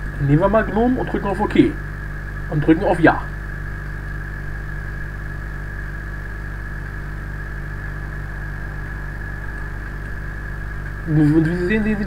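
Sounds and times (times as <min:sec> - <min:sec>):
constant hiss: 0:00.0 - 0:12.0
electrical mains hum: 0:00.0 - 0:12.0
faint high whine: 0:00.0 - 0:12.0.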